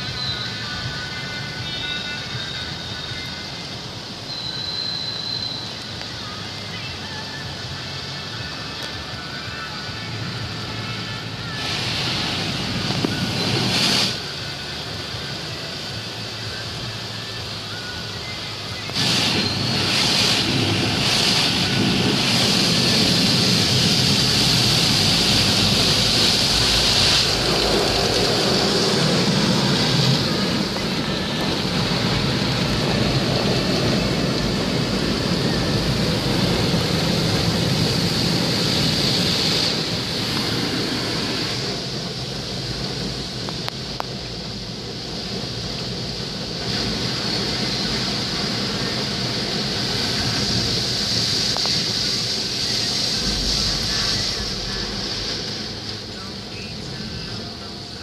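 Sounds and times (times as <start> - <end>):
water spraying on car: 0.0 - 58.0.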